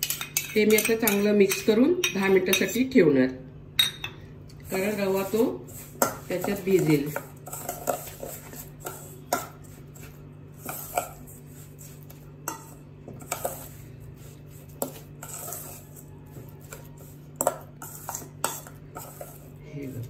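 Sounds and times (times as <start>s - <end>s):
spoon scraping metal bowl: 0.0s - 2.8s, 4.6s - 20.0s.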